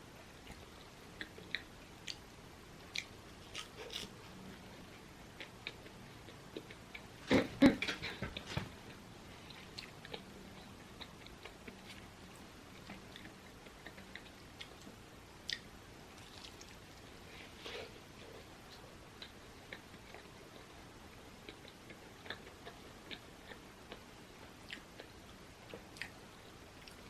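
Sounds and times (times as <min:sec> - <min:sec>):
soft chewing: 0:00.2 - 0:27.0.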